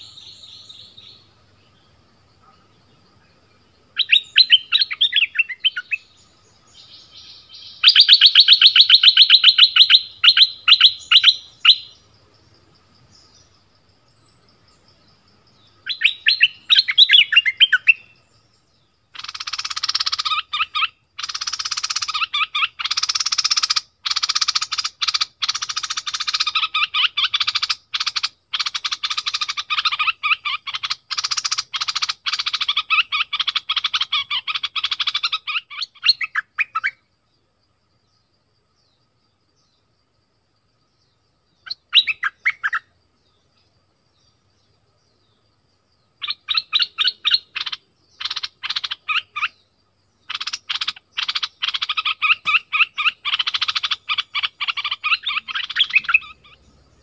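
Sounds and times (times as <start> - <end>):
bird singing rapid notes: 3.6 - 12.1, 13.0 - 37.1, 40.9 - 57.0.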